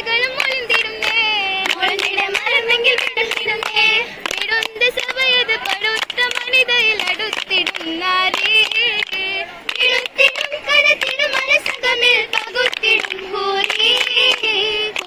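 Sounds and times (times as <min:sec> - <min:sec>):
girls singing together: 0:00.0 - 0:15.0
rhythmic hand clapping: 0:00.0 - 0:15.0.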